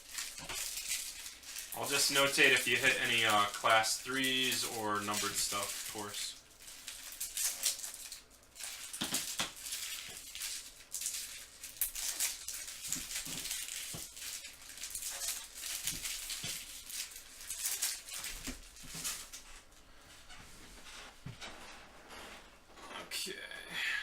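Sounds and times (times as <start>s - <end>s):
card packs tearing open: 0.0s - 19.4s
paper and foil rustling: 0.0s - 19.8s.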